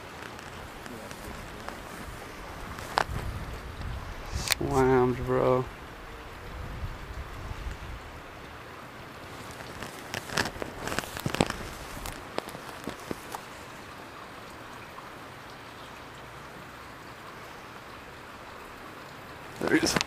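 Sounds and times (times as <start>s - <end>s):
steady hiss: 0.0s - 14.2s, 17.3s - 20.0s.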